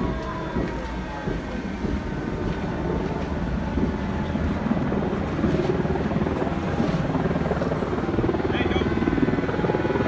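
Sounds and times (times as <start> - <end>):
helicopter rotor chop: 0.0 - 10.0.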